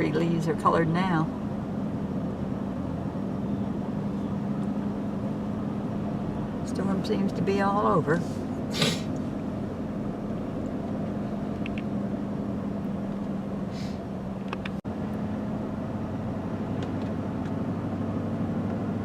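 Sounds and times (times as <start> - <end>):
vehicle engine hum from inside cab: 0.0 - 19.0.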